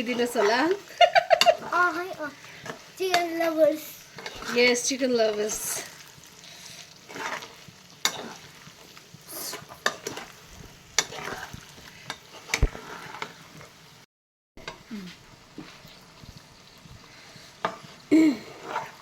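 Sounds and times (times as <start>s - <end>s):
spatula scraping a pan: 0.0s - 13.8s, 15.5s - 19.0s
chicken sizzling in hot oil: 0.0s - 19.0s.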